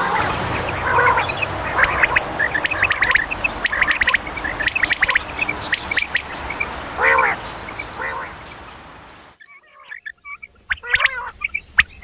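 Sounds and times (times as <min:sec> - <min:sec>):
quail chirping: 0:00.0 - 0:12.0.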